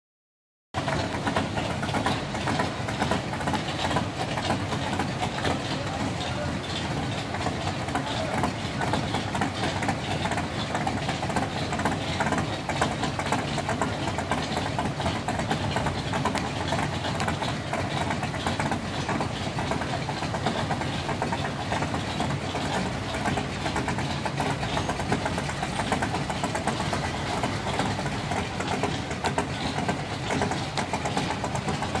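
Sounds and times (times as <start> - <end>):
car engine idling: 0.8 - 32.0.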